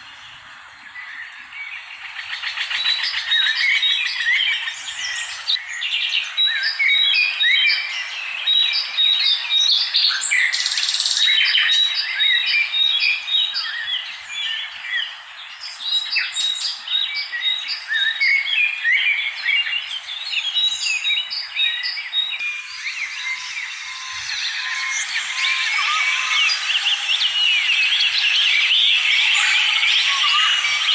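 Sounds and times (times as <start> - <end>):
birds chirping in chorus: 0.0 - 30.9.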